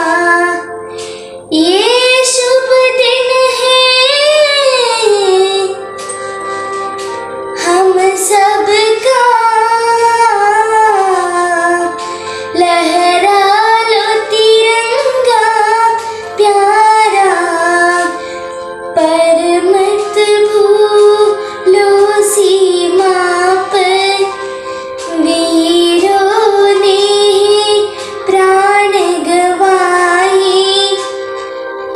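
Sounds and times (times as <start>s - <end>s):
girl singing: 0.0s - 6.2s, 7.6s - 24.4s, 25.0s - 31.1s
held instrumental backing: 0.0s - 31.9s.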